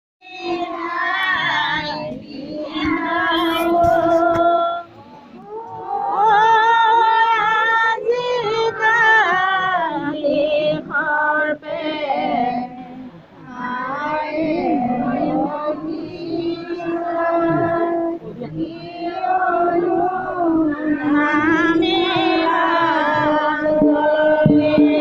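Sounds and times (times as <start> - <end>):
high voice singing devotional song: 0.2 - 25.0.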